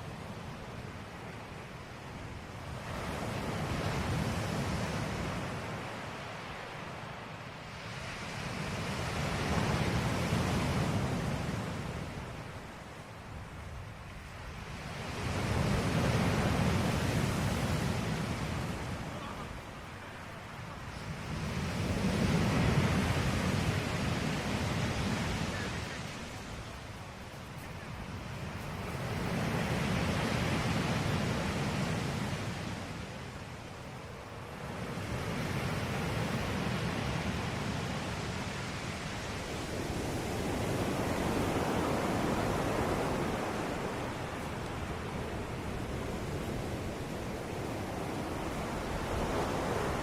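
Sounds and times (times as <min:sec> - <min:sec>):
ocean waves washing on shore: 0:00.0 - 0:50.0.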